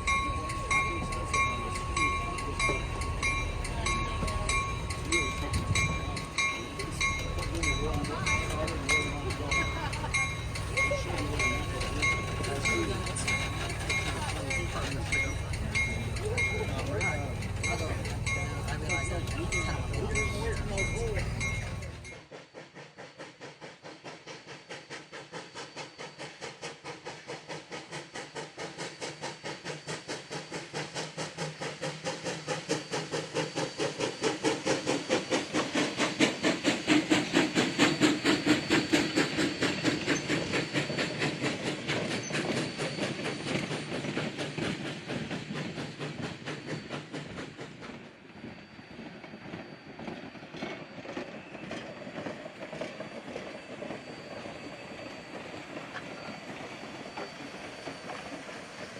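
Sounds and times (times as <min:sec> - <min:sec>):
steam hiss: 0:00.0 - 0:58.9
steam locomotive chuffing: 0:00.0 - 0:58.9.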